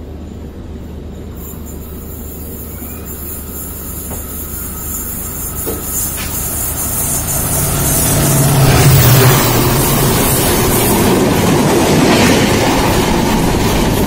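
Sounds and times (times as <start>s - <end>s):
locomotive engine drone: 0.0s - 14.0s
train running rumble: 0.0s - 14.0s.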